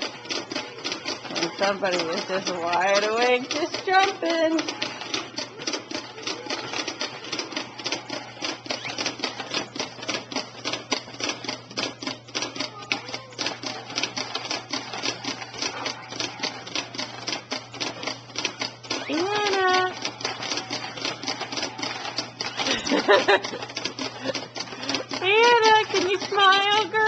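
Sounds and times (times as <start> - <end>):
baby bouncer clicking and rattling: 0.0 - 27.0.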